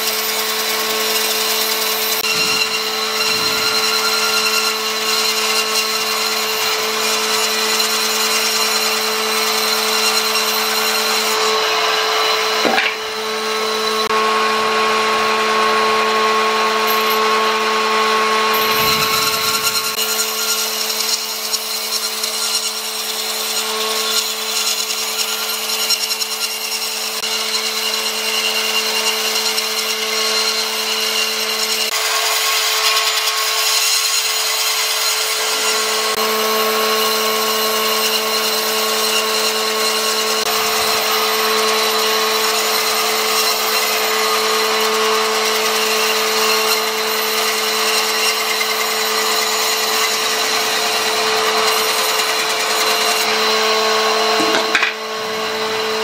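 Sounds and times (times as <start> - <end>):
blade cutting through log: 0.0 - 14.3, 15.0 - 56.0
bandsaw motor hum: 0.0 - 56.0.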